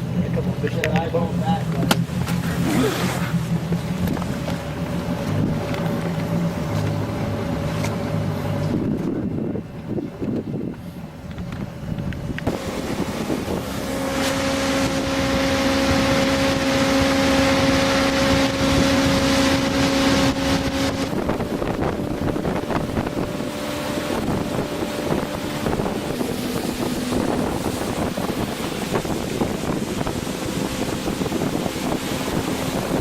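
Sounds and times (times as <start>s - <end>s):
motorboat engine droning: 0.0s - 33.0s
wind rushing on microphone: 0.0s - 33.0s.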